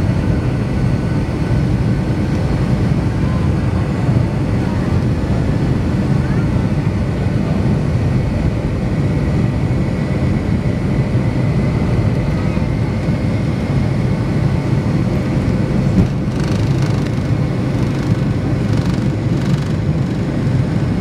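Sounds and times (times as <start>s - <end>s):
jet engines roaring in cabin: 0.0s - 21.0s.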